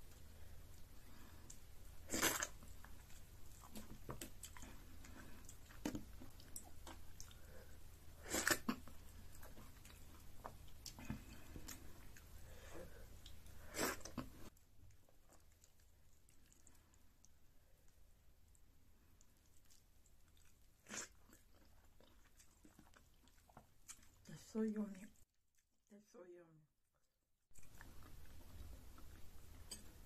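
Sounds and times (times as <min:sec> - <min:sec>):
person chewing food: 0:00.0 - 0:24.3, 0:27.5 - 0:30.0.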